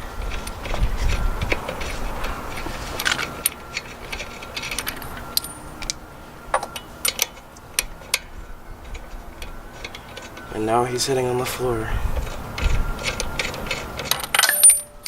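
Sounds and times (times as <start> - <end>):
steady low hiss: 0.0 - 15.0
metal tools clicking and clinking: 0.2 - 10.8, 12.2 - 15.0.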